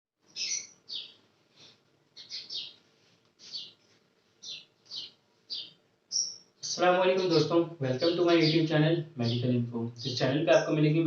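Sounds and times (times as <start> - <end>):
bird chirping: 0.2 - 2.8, 3.4 - 3.8, 4.4 - 11.0.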